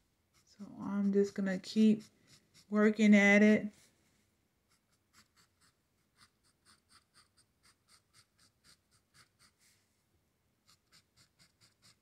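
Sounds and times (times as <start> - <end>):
brush marker scratching on canvas: 0.3 - 3.9, 4.7 - 9.8, 10.6 - 12.0.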